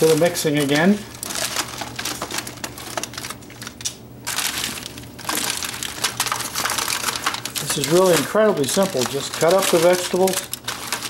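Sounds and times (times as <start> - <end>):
aluminium foil crinkling: 0.0 - 11.0
vegetables squishing: 0.0 - 11.0.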